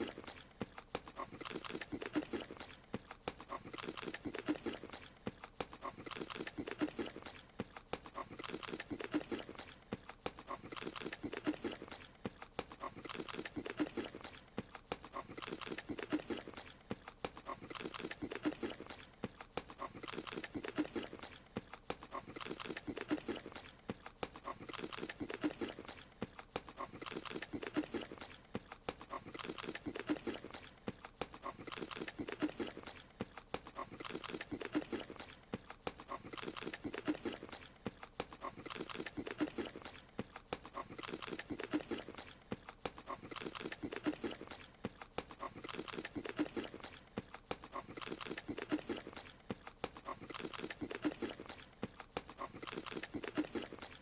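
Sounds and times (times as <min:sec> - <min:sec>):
cartoon chewing clicks: 0:00.0 - 0:54.0.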